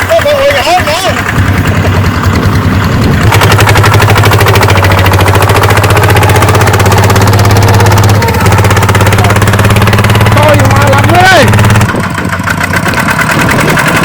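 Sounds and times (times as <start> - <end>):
diesel engine throbbing: 0.0 - 14.0.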